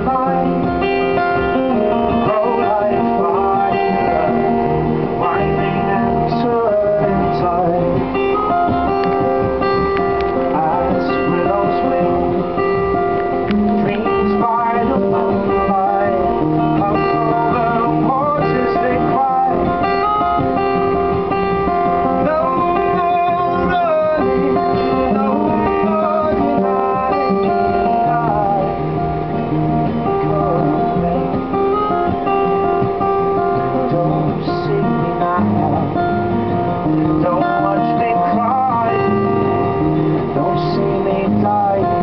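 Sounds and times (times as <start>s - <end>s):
acoustic guitar strumming: 0.0s - 42.0s
man singing: 0.0s - 42.0s.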